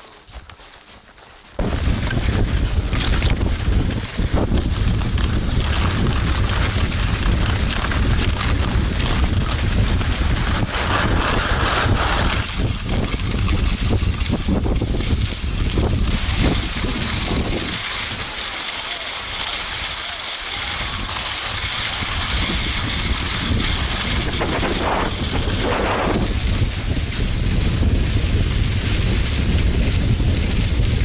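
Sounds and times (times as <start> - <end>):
skis sliding on snow: 0.0 - 31.0
wind buffeting microphone: 1.6 - 18.4, 19.2 - 31.0.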